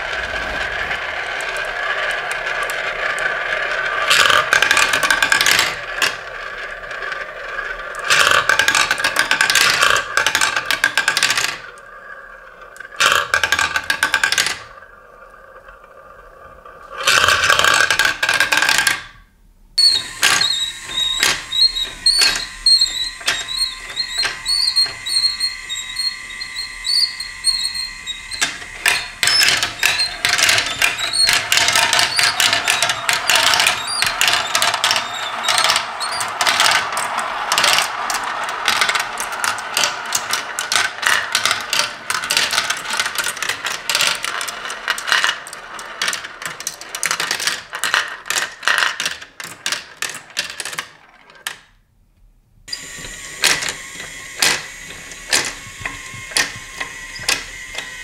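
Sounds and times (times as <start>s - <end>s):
marbles rattling through plastic track: 0.0s - 19.2s, 19.8s - 51.8s, 52.8s - 58.0s.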